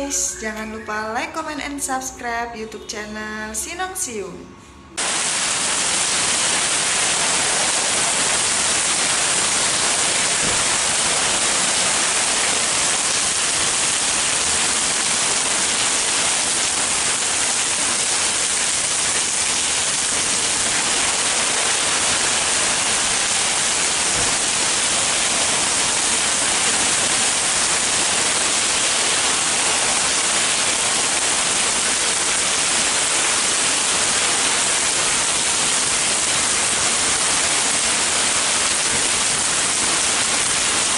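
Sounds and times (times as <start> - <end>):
heavy rain pouring: 5.0 - 40.9.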